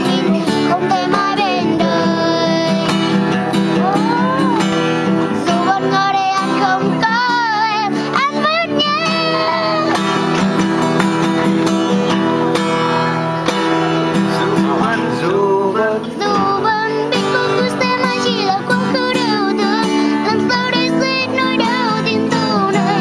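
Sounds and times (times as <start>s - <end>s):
boy singing a slow ballad: 0.0s - 10.0s, 14.4s - 23.0s
strummed acoustic guitar: 0.0s - 23.0s.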